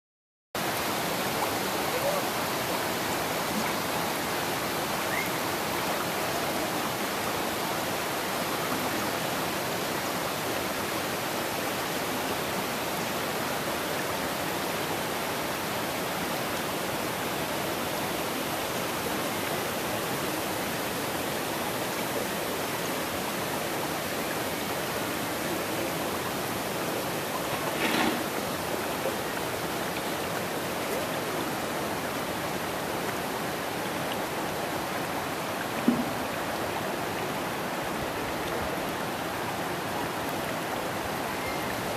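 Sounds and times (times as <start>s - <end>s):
river water rushing over rocks: 0.6s - 41.9s.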